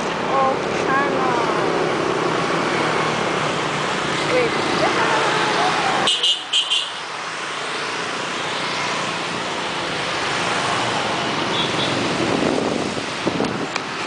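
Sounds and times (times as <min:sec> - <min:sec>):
passing motorbikes: 0:00.0 - 0:14.0.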